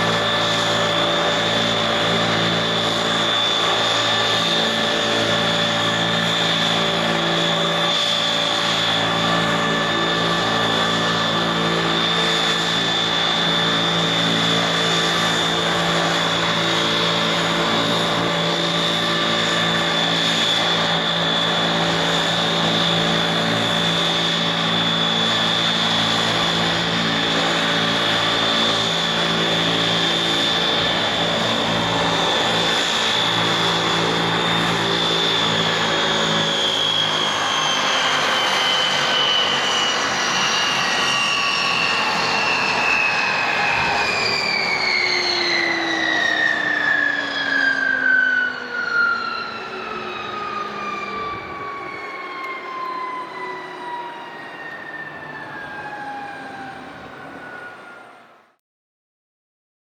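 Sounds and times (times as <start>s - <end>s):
turbine whine falling in pitch: 0.0s - 58.3s.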